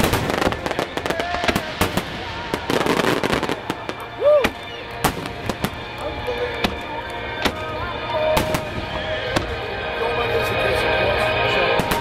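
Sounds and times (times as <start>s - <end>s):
fireworks bursting: 0.0s - 9.9s, 11.6s - 12.0s
music playing: 0.0s - 12.0s.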